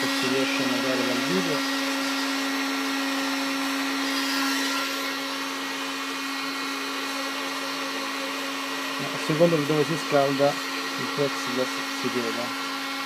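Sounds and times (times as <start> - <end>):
heat gun fan whirring: 0.0 - 13.0.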